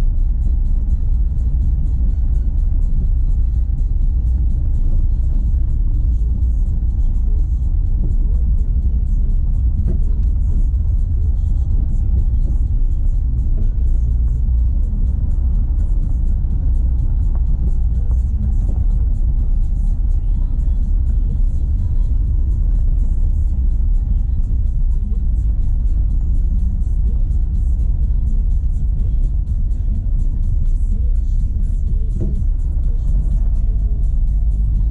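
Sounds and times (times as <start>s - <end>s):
road rumble and tyre noise: 0.0s - 34.9s.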